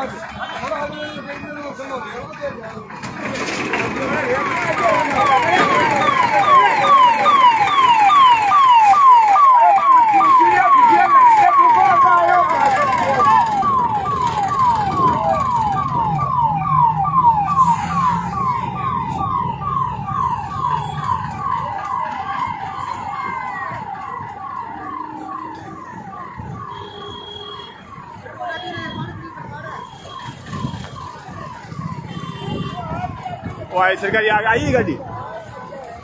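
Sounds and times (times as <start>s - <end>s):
emergency vehicle siren: 0.0s - 36.0s.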